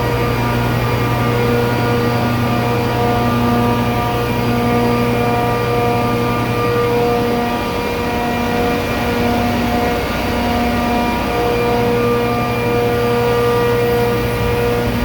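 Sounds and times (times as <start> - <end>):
compressor droning: 0.0 - 15.0.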